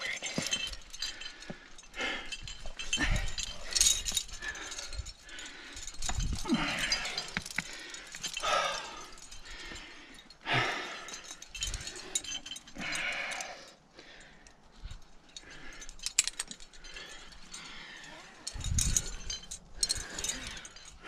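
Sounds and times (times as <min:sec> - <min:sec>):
carabiners clinking: 0:00.0 - 0:21.0
person breathing hard: 0:00.0 - 0:21.0.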